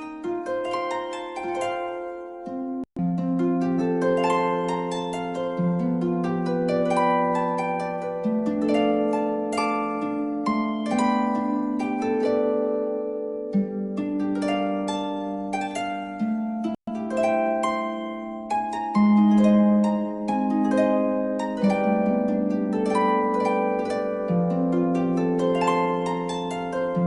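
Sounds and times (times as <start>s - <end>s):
plucked harp music: 0.0s - 27.0s.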